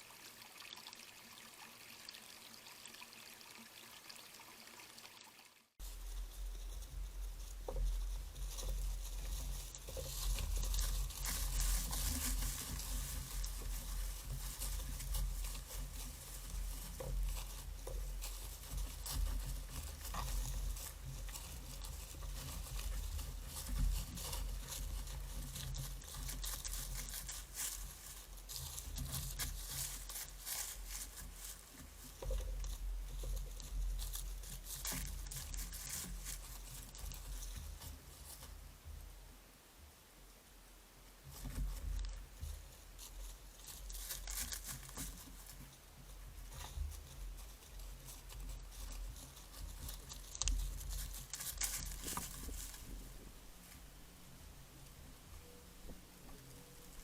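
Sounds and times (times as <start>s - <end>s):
rustling and crackling patter: 5.8s - 57.0s.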